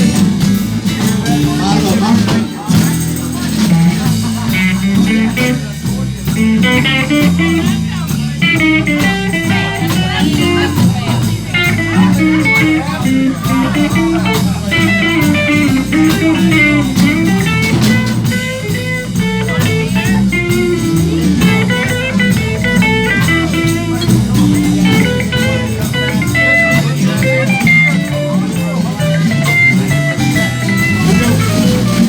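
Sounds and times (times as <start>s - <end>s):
drums: 0.0s - 32.0s
guitar lead: 0.0s - 32.0s
low bass notes: 0.0s - 32.0s.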